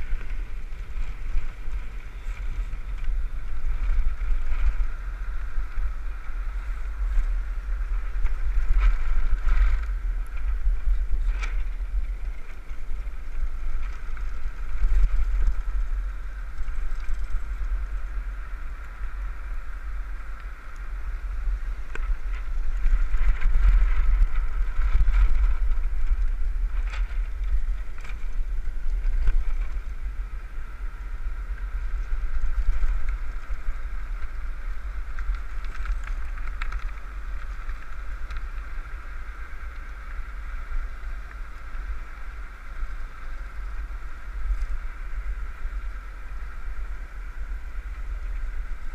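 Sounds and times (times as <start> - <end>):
rolling wheels humming: 0.0 - 48.9
wind buffeting microphone: 0.0 - 48.9.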